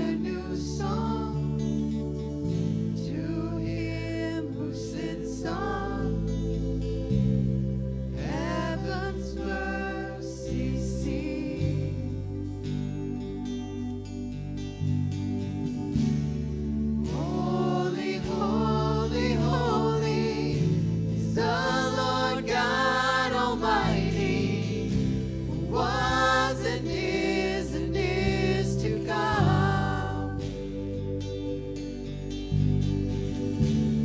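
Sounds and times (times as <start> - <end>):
voices singing worship song: 0.0 - 13.2, 15.8 - 31.9
sustained instrumental chords: 0.0 - 34.0.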